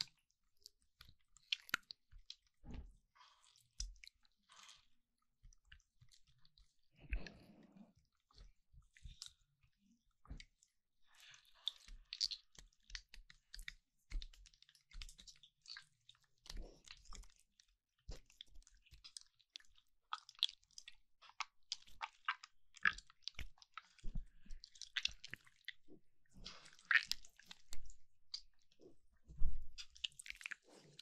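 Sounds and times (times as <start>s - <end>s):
slime squishing: 0.0s - 29.1s, 29.7s - 31.0s.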